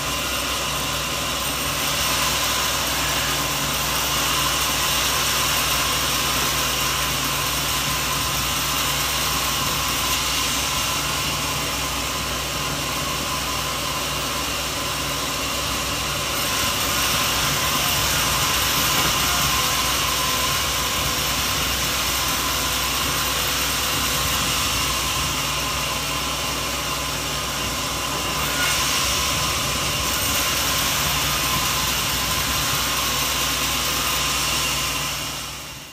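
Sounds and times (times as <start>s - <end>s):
sawmill machinery running: 0.0s - 35.9s.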